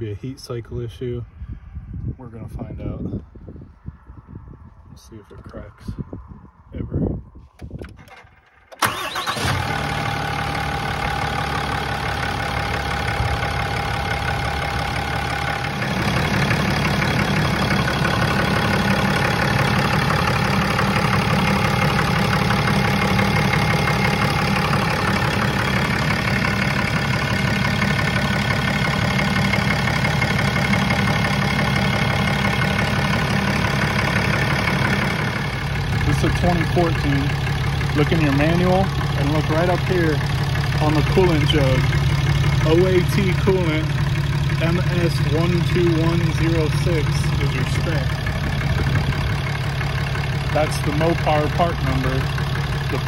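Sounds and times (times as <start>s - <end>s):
diesel engine starting and idling: 7.5s - 53.0s.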